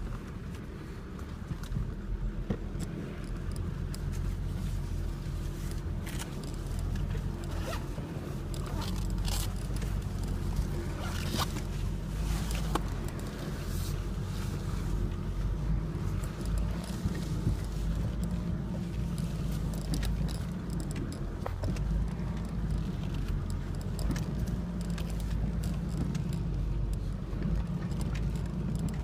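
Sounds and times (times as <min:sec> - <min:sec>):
diesel engine at low revs: 0:00.0 - 0:29.0
suspension knocks and creaks: 0:01.2 - 0:29.0.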